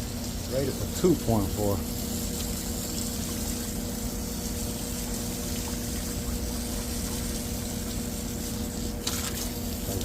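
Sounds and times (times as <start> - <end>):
fan motor hum: 0.0 - 10.0.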